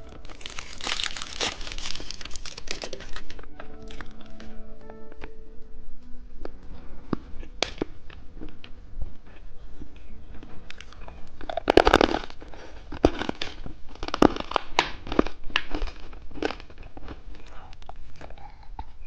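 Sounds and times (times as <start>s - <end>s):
candy packaging crackling: 0.0s - 5.3s, 7.1s - 18.5s.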